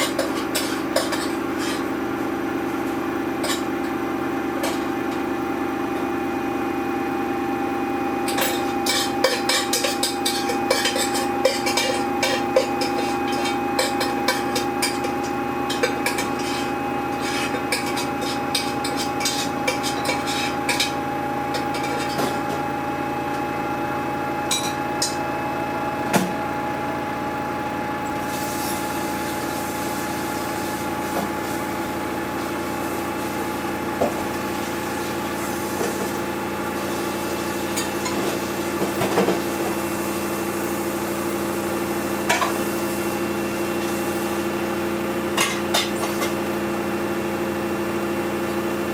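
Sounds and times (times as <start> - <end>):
washing machine motor hum: 0.0 - 48.9.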